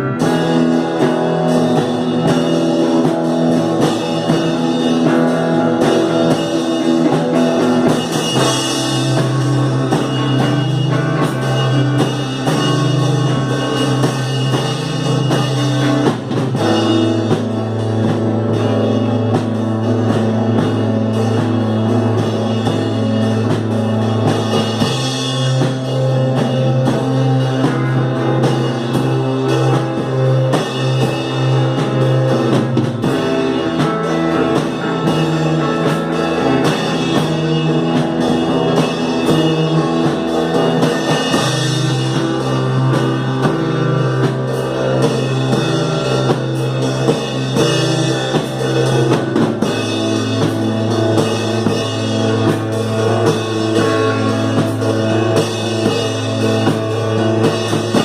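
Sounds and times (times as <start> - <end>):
psychedelic rock band playing: 0.0 - 58.0.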